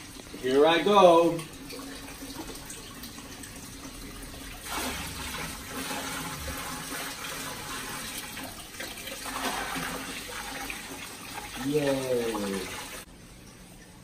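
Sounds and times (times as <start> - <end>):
water splashing into aquarium: 0.0 - 13.1.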